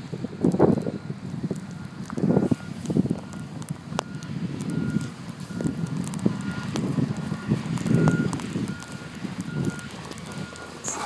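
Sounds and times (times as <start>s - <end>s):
low rumbling engine: 0.0s - 11.0s
reversing alarm beeping: 0.9s - 11.0s.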